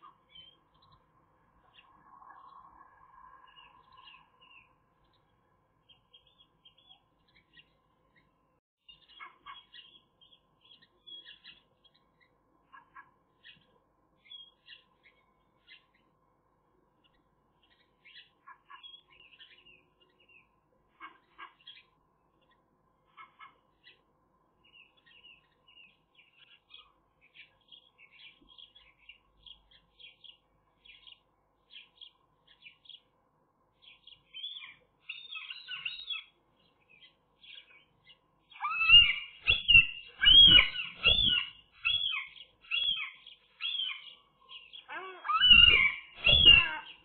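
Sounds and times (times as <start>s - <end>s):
birds chirping: 0.0s - 16.2s, 17.0s - 47.0s.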